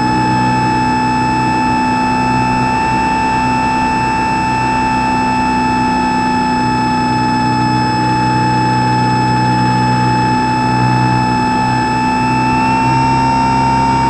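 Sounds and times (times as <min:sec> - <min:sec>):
model plane motor whine: 0:00.0 - 0:14.0.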